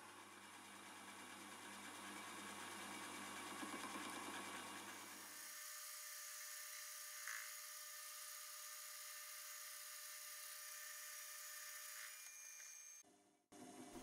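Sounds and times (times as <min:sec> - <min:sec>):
metal lathe whine: 0:00.7 - 0:13.0.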